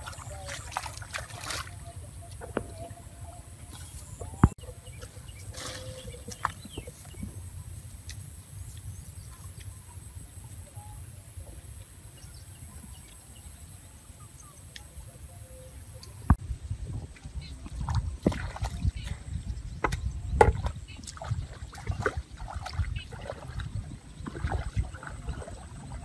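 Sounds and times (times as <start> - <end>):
wind rumble on microphone: 1.8 - 14.4, 15.0 - 26.0.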